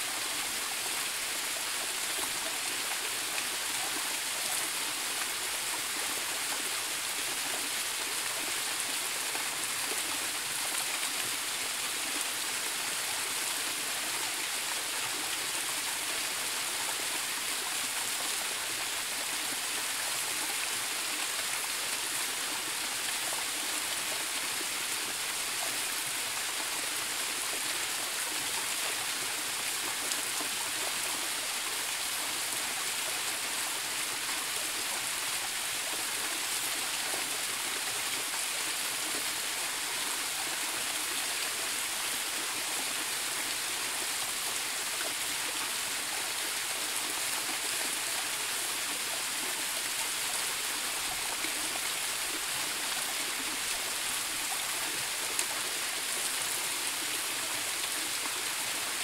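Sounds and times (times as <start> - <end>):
waterfall cascading over rocks: 0.0 - 59.0.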